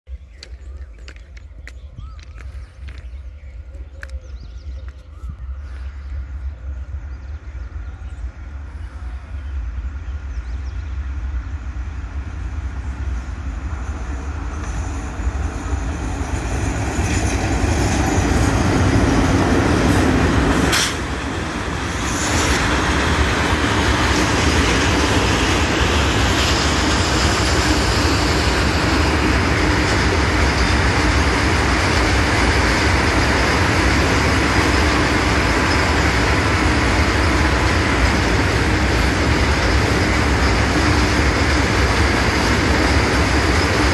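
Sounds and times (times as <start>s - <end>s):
freight train rumbling past: 0.1s - 43.9s.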